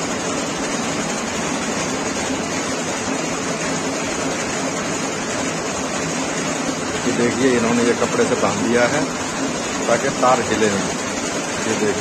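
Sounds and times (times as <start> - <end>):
chain-making machine running: 0.0 - 12.0.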